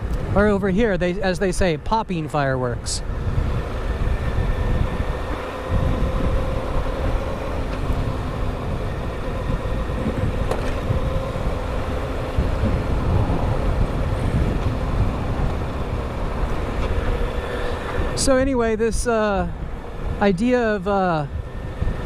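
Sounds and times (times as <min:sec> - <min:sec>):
motorcycle engine cruising: 0:00.0 - 0:22.0
wind rumble: 0:00.0 - 0:22.0.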